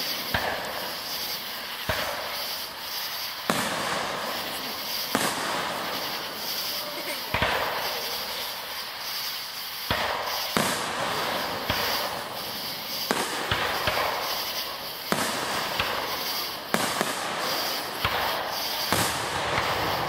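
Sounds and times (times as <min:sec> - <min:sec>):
fireworks bursting with bangs: 0:00.0 - 0:20.0
steady hiss: 0:00.0 - 0:20.0.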